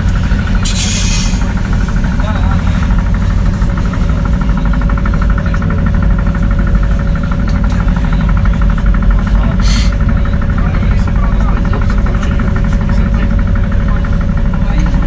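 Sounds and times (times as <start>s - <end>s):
low rumble: 0.0s - 15.0s
steady hum: 0.0s - 15.0s
trolleybus machinery pulsing: 0.0s - 15.0s.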